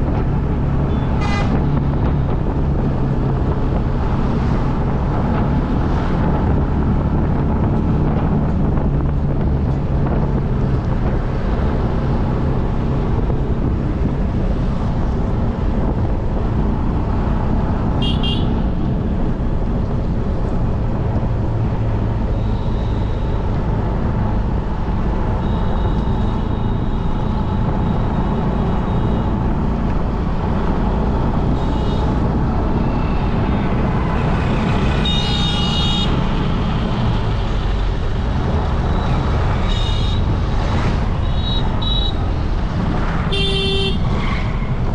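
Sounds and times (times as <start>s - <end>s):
traffic rumble: 0.0s - 44.9s.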